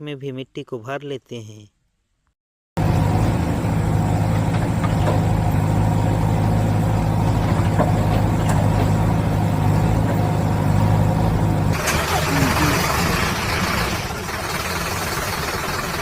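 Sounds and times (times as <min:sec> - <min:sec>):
heavy diesel engine running: 0:02.8 - 0:16.0.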